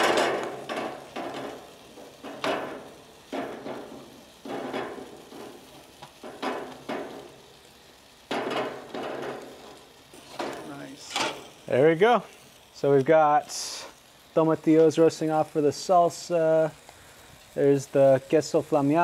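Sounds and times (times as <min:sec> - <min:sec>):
steak sizzling in skillet: 0:00.0 - 0:19.0.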